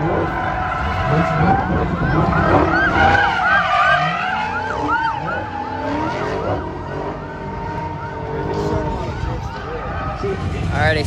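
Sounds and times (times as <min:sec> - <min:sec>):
police siren yelping: 0:00.0 - 0:10.5
car engines: 0:00.0 - 0:11.0.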